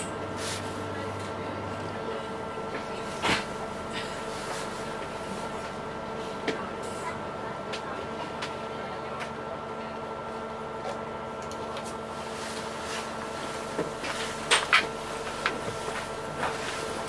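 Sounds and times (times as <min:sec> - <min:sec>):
boat machinery hum: 0:00.0 - 0:17.0.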